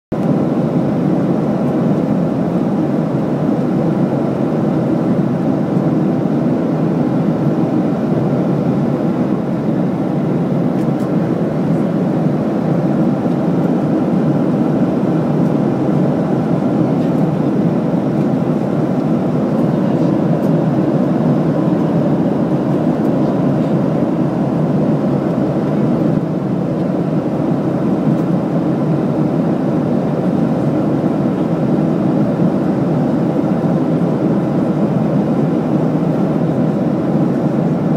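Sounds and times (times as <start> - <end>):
airliner cabin rumble: 0.1 - 37.9.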